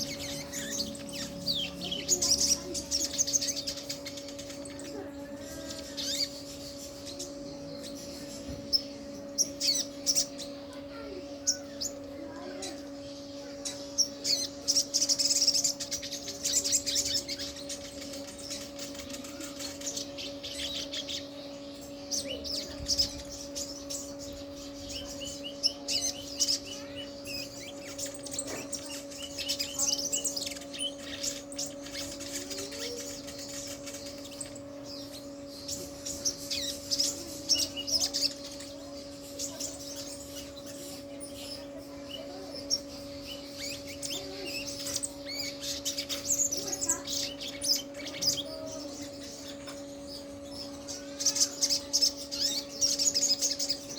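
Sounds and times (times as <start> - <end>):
bird singing high chirps: 0.0 - 53.9
steady low hum: 0.0 - 53.9.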